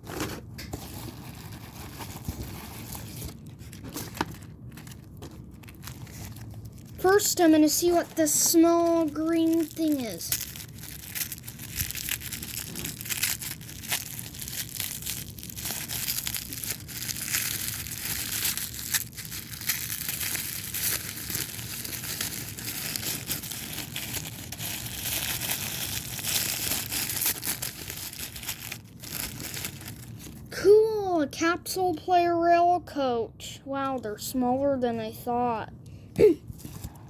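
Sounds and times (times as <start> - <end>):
packaging crinkling and tearing: 0.0 - 30.5.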